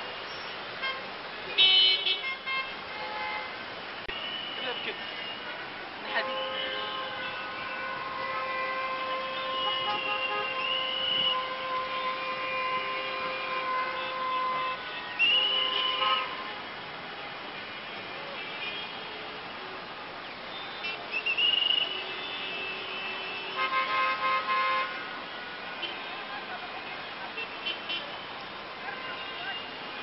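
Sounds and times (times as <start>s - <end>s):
traffic noise: 0.0s - 30.0s
car horns honking: 0.8s - 19.3s, 20.5s - 30.0s.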